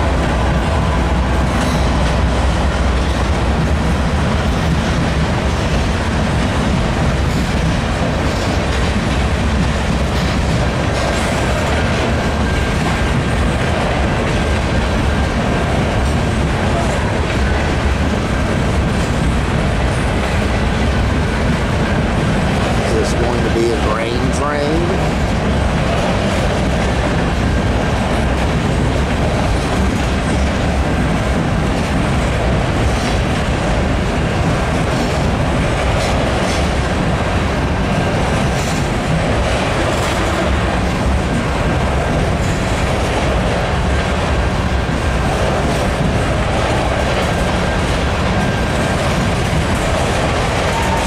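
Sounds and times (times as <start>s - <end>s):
steel wheels running over rails: 0.0s - 51.0s.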